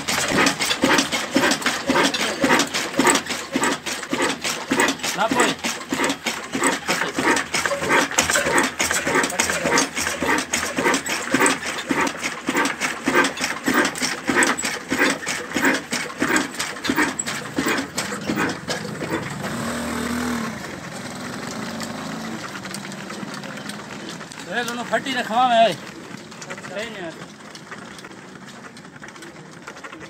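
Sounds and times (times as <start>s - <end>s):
diesel engine chuffing: 0.0s - 30.0s.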